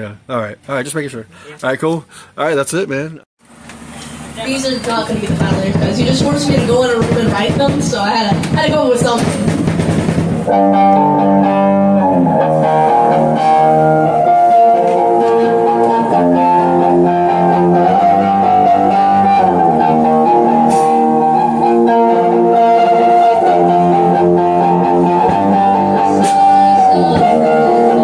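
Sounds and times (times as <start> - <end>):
guitar playing chords: 3.9 - 28.0.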